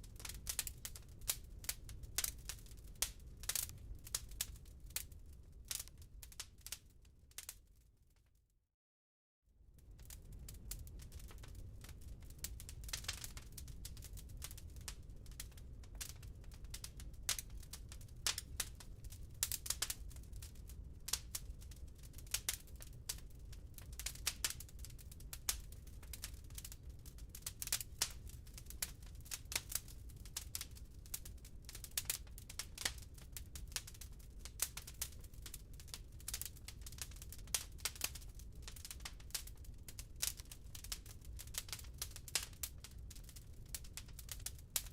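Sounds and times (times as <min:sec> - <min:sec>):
firewood crackling and popping: 0:00.0 - 0:07.6, 0:09.8 - 0:44.9
low rumble of fire: 0:00.0 - 0:08.0, 0:09.5 - 0:44.9.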